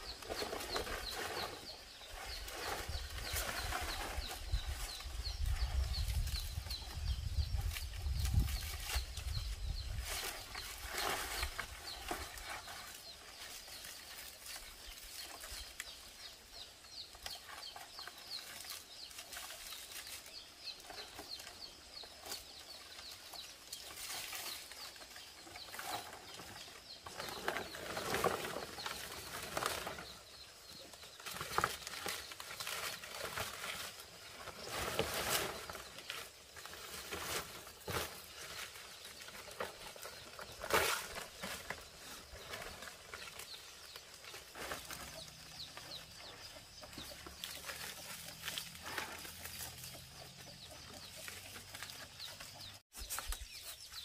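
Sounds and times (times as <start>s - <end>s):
rustling or scraping: 0.0s - 54.0s.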